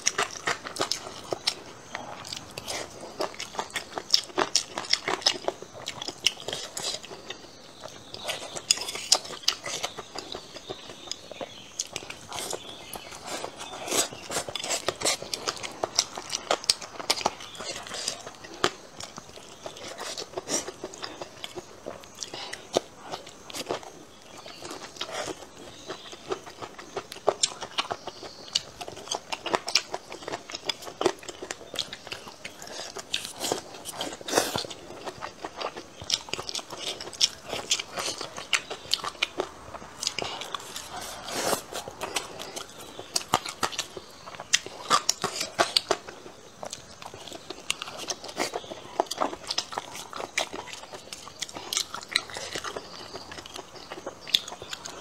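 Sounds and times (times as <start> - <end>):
close-up chewing and crunching: 0.0 - 55.0.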